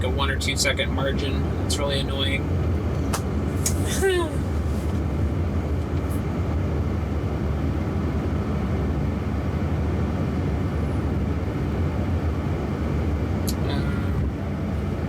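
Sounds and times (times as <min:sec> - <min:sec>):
road and tyre rumble in car cabin: 0:00.0 - 0:15.0.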